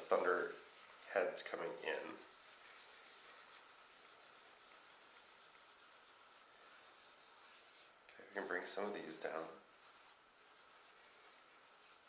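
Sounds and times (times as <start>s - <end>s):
fingertip rubbing on paper: 0.0s - 12.0s.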